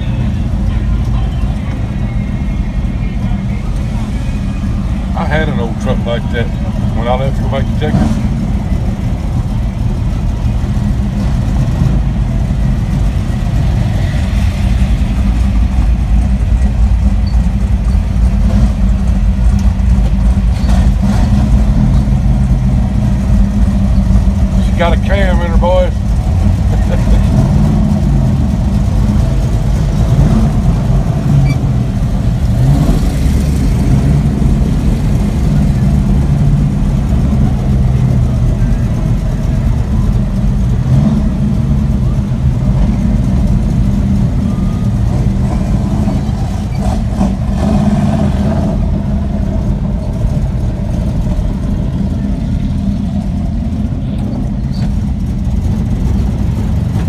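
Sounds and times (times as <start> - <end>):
car engines cruising: 0.0 - 57.0.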